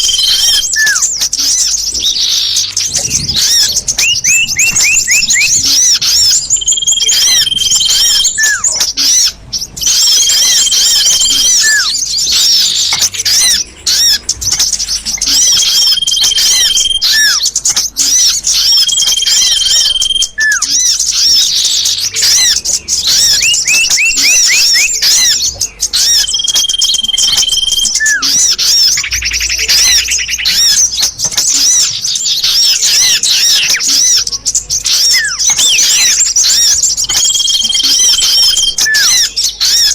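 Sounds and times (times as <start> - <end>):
recorded bird chirps: 0.0 - 39.9.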